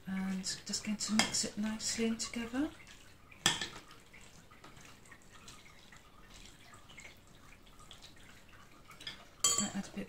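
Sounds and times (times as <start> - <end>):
spoon stirring in ceramic dish: 0.5 - 7.1, 7.9 - 10.0.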